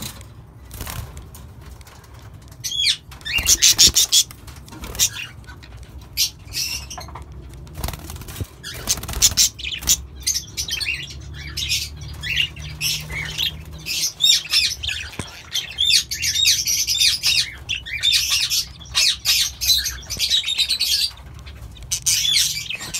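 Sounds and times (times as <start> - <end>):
budgerigars chirping: 2.6 - 22.9.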